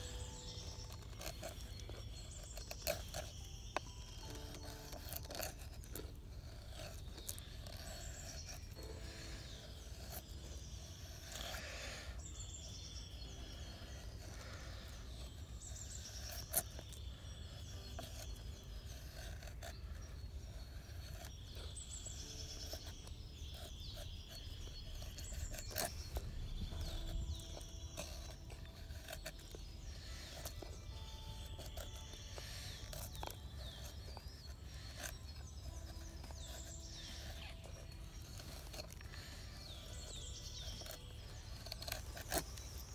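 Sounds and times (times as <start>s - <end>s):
birds singing: 0.0s - 42.9s
knife scraping wooden stick: 0.0s - 42.9s.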